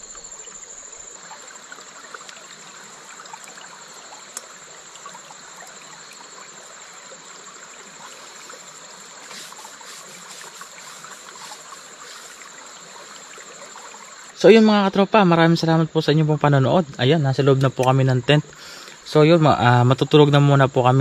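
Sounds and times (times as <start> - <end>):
flowing stream: 0.0 - 21.0
insects trilling: 0.0 - 21.0.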